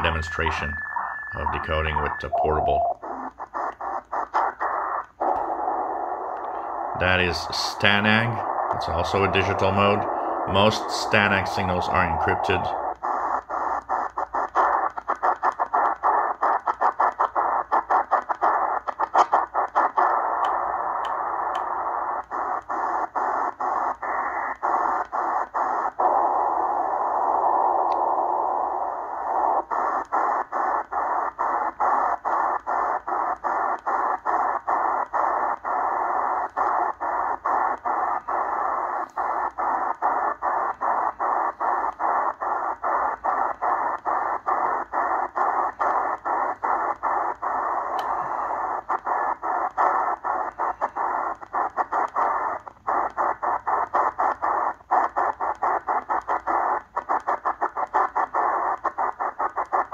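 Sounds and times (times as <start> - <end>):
radio static: 0.0 - 59.9.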